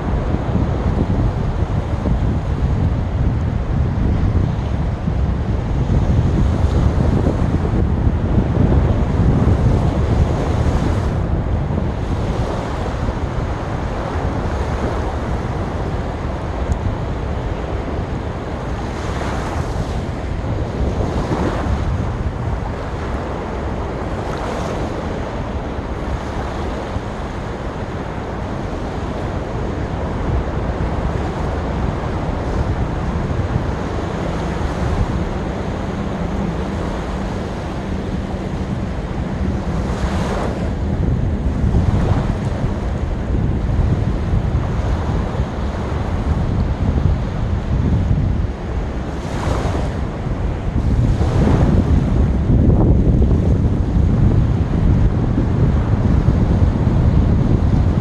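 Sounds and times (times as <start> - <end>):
sea waves washing onto beach: 0.0 - 58.0
wind buffeting microphone: 0.0 - 58.0.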